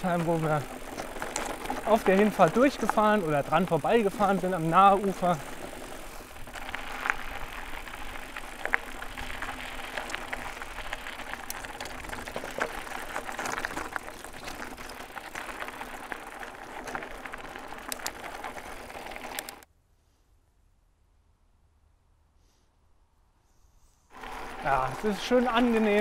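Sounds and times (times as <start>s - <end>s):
bike clicks and rattles: 0.0s - 19.7s, 24.1s - 26.0s
bike tyre riding noise: 0.0s - 19.7s, 24.1s - 26.0s.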